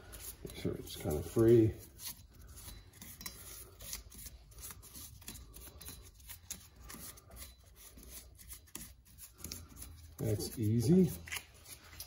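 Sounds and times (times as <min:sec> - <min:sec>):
gloved hand scrubbing metal: 0:00.0 - 0:12.0.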